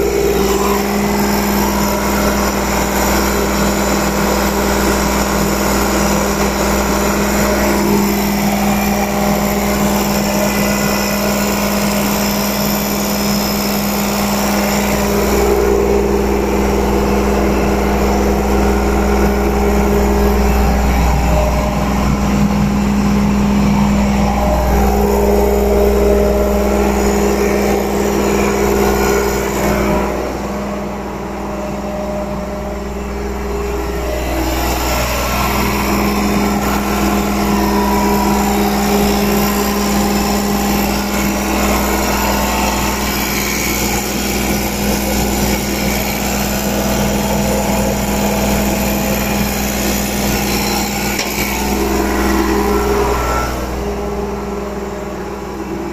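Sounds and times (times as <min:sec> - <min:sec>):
construction machine engine idling: 0:00.0 - 0:55.9.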